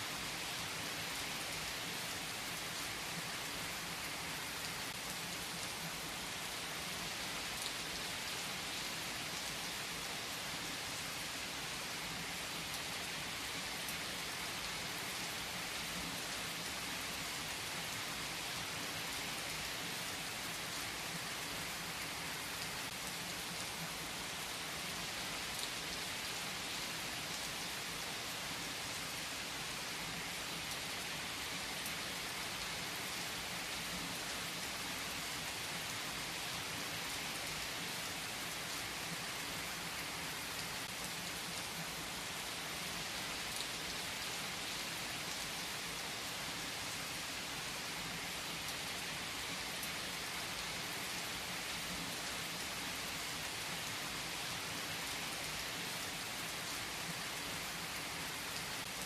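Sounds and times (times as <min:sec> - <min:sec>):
steady rain pattering: 0:00.0 - 0:59.0.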